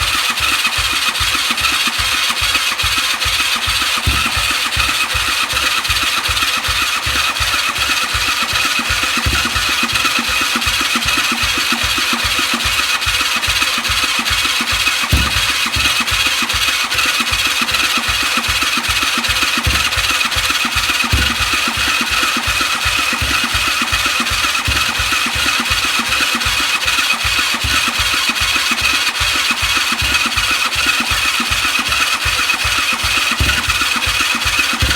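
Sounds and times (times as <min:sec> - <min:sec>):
engine cranking with electric starter: 0:00.0 - 0:34.9.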